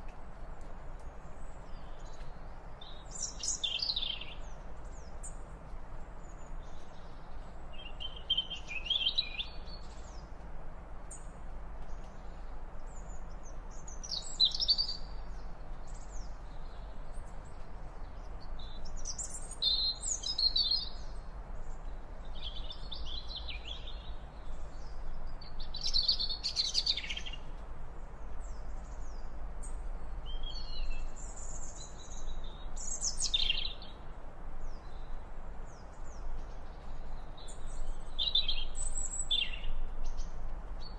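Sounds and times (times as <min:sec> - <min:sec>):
low background hiss: 0:00.0 - 0:40.9
songbirds chirping: 0:00.0 - 0:40.9.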